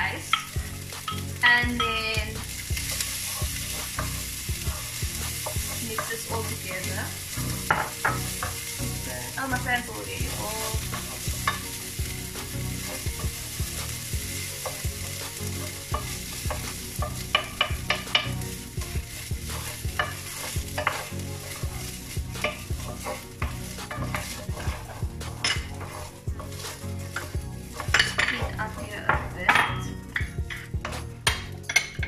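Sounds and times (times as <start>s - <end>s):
rice and vegetables sizzling in pan: 0.0s - 32.0s
wooden spoon scraping a pan: 0.2s - 32.0s.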